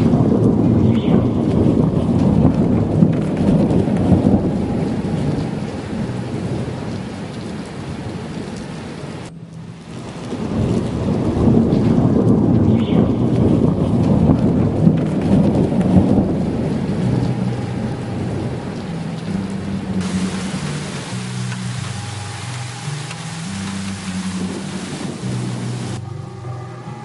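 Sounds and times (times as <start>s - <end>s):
deep rolling thunder: 0.0s - 26.5s
rain falling: 0.0s - 27.0s.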